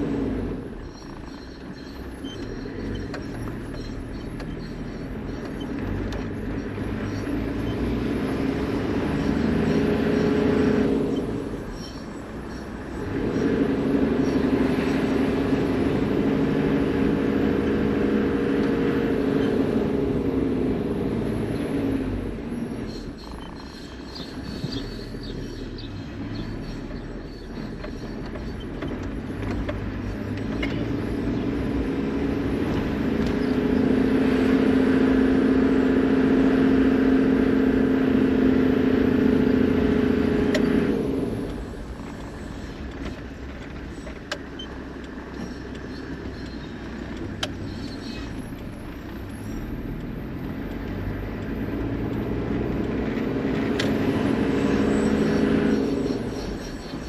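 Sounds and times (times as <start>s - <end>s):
brake squealing: 0.0s - 57.0s
vehicle driving: 0.0s - 57.0s.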